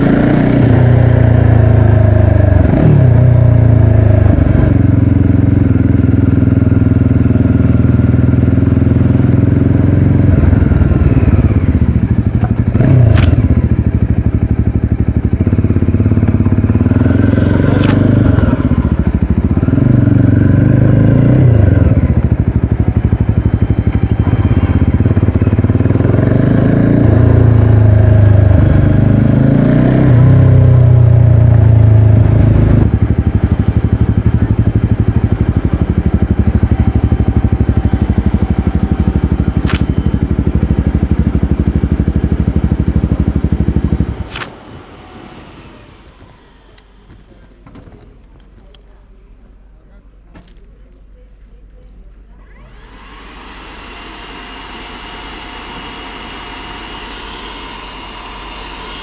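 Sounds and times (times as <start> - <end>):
motorcycle engine revving: 0.0 - 48.0, 52.4 - 59.0.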